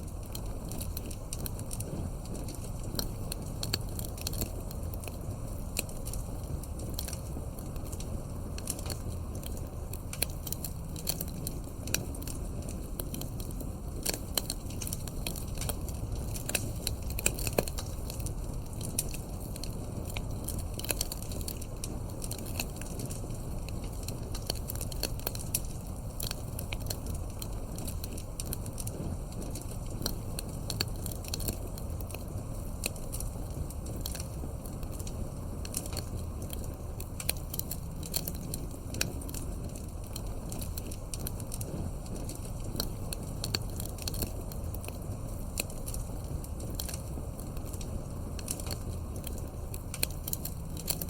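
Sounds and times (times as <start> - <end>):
low rumble of burning logs: 0.0 - 51.0
wood fire crackling: 0.0 - 51.0.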